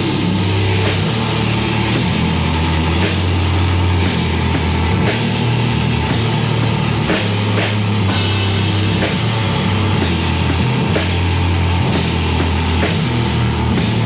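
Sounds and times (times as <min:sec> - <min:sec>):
drum kit with cymbal crashes: 0:00.0 - 0:14.0
low guitar and bass: 0:00.0 - 0:14.0.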